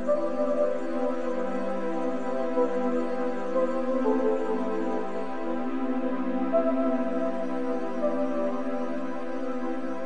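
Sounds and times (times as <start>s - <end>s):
soft new-age music: 0.0s - 10.0s.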